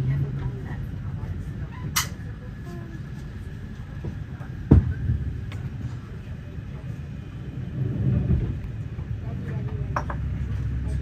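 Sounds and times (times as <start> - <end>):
train rumble from inside carriage: 0.0 - 11.0.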